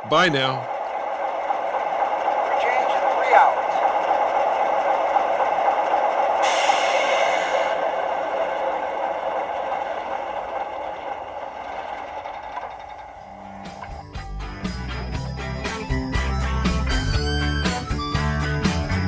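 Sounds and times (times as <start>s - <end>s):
model train rumbling: 0.0s - 19.0s.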